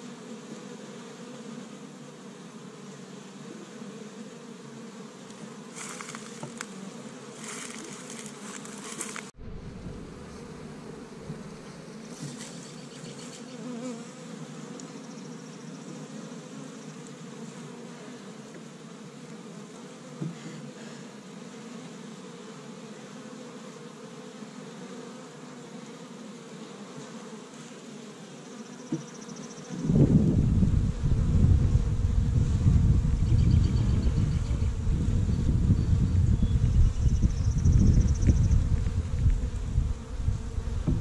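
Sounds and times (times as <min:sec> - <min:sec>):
honey bees buzzing: 0:00.0 - 0:41.0.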